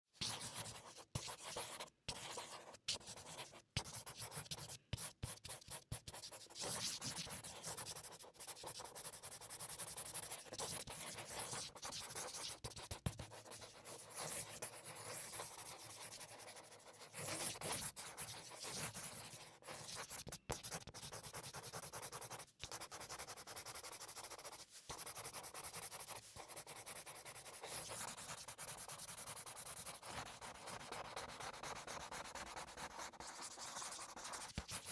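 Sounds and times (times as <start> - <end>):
marker scratching on paper: 0.2 - 34.9.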